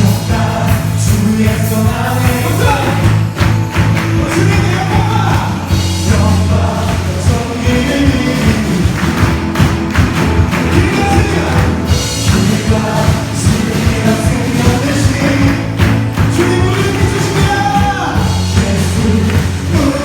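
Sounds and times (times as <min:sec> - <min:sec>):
person singing: 0:00.0 - 0:09.6, 0:10.5 - 0:20.0
band playing worship song: 0:00.0 - 0:20.0
bass: 0:00.0 - 0:20.0
steady drum beat: 0:00.0 - 0:20.0.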